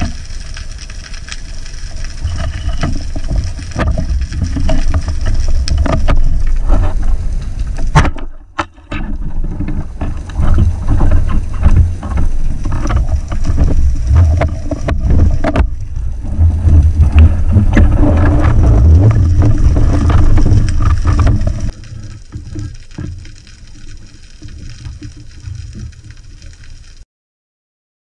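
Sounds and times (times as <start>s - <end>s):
underwater rumble of moving water: 0.0s - 27.0s.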